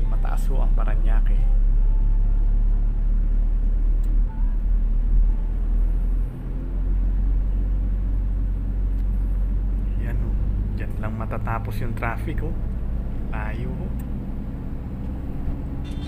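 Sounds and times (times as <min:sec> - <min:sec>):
car interior driving rumble: 0:00.0 - 0:16.0.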